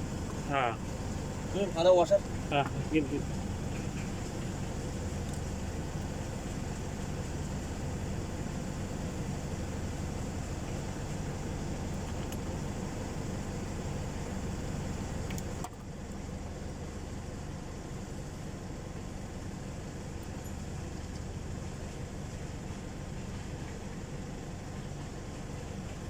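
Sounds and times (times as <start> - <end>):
low engine-like hum: 0.0 - 26.0.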